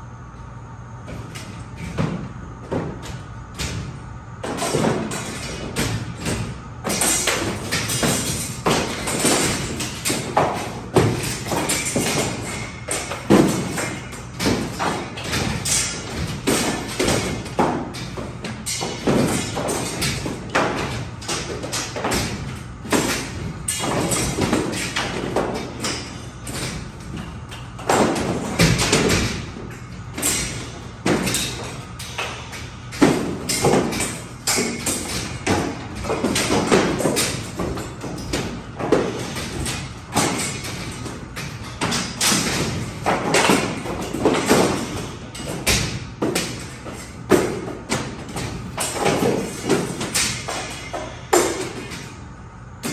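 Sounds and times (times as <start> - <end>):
ceiling panels thudding and banging: 0.8 - 52.9.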